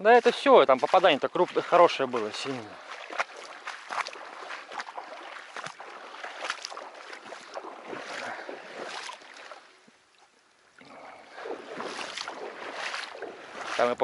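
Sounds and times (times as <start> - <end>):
wading steps sloshing in water: 0.0 - 14.0.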